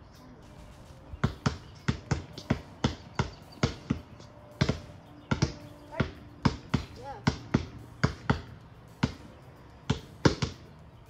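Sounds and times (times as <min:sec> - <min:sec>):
basketball bouncing on concrete: 0:01.2 - 0:11.0.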